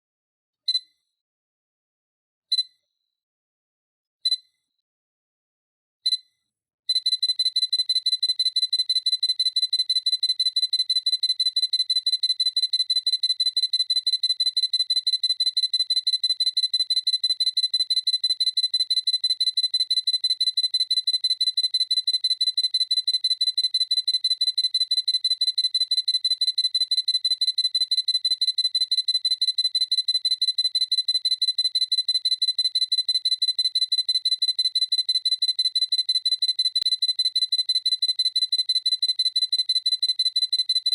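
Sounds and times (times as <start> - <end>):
high electronic camera beep: 6.9 - 40.9.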